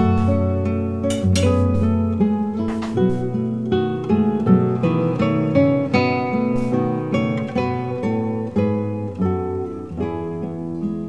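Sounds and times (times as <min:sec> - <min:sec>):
acoustic guitar plucking: 0:00.0 - 0:11.0.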